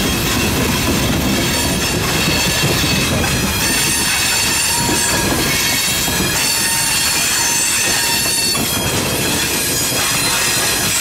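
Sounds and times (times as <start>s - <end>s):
train wheels rumbling on rails: 0.0s - 11.0s
high-pitched wheel squeal: 1.4s - 11.0s.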